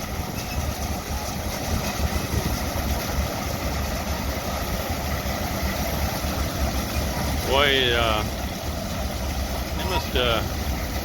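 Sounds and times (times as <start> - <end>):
harvester machinery running: 0.0 - 11.0
tractor engine running: 0.0 - 11.0.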